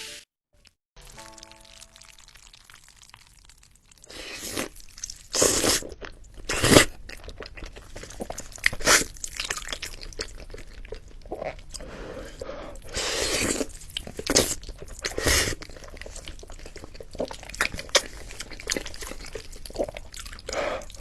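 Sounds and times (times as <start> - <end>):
crackly chewing: 2.0 - 11.8, 13.5 - 21.0.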